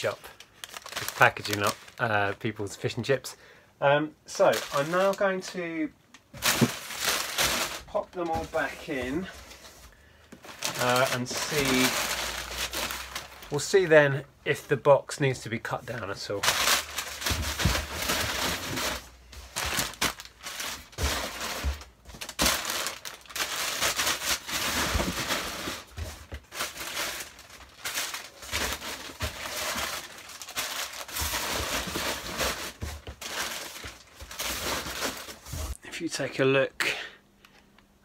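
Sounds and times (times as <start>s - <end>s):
packing paper rustling: 0.0s - 3.0s, 4.3s - 13.9s, 15.5s - 35.8s.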